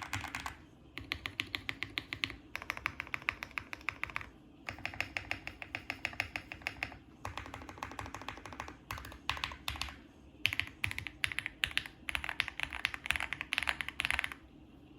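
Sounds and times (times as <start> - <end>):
mechanical keyboard typing: 0.0 - 14.4.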